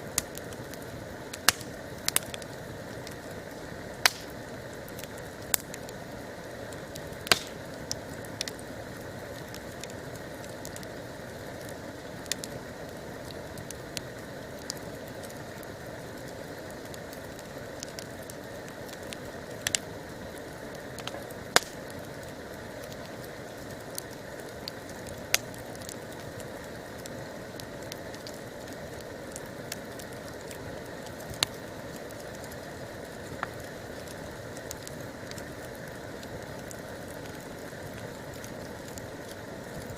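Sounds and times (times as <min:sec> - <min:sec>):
burning wood crackling and popping: 0:00.0 - 0:39.9
campfire flames hissing: 0:00.0 - 0:39.9.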